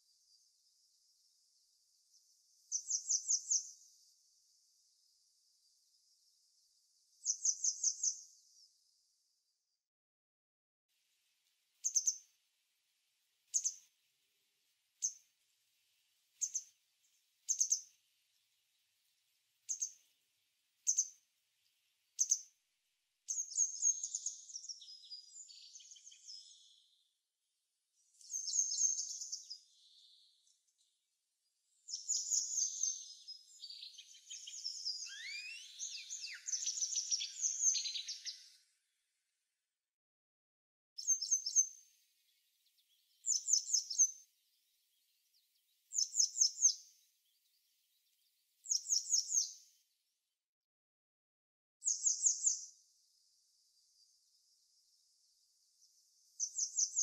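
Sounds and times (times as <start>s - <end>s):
songbirds chirping: 0.0s - 9.8s, 11.0s - 39.3s, 41.0s - 50.3s, 51.8s - 57.0s.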